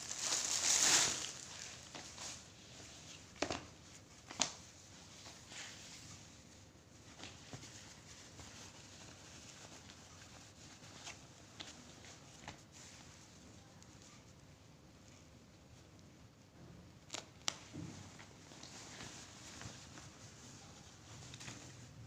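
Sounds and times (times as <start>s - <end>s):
parcel rustling: 0.0s - 15.0s, 17.0s - 22.0s.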